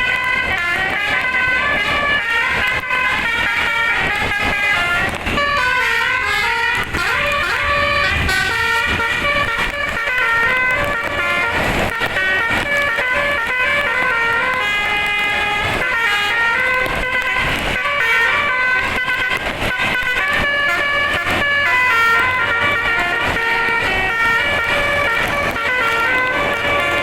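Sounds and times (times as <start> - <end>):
air horns playing a fast melody: 0.0 - 27.0.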